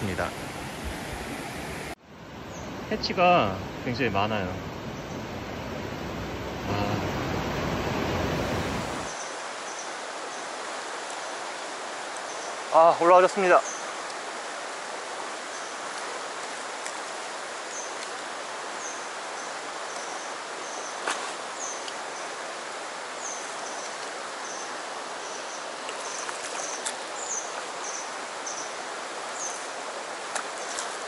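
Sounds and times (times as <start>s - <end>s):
stream rushing over rocks: 0.0s - 31.0s.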